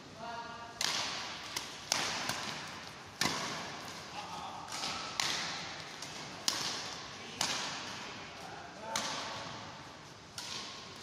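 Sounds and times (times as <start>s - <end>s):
rackets hitting shuttlecock: 0.8s - 8.2s, 8.8s - 11.0s.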